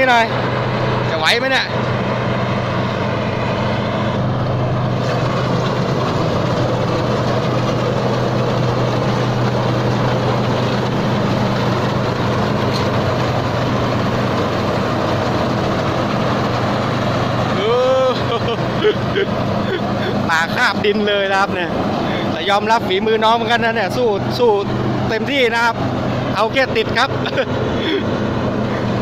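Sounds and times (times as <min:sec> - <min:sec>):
combine harvester engine running: 0:00.0 - 0:29.0
harvesting machinery clatter: 0:00.0 - 0:29.0.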